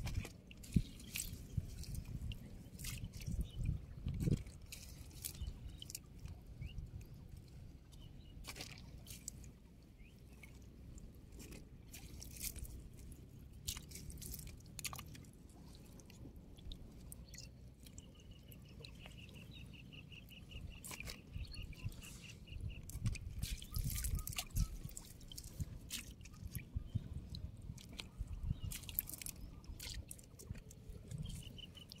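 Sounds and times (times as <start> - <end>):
squishing of wet weed and mud: 0.0 - 32.0.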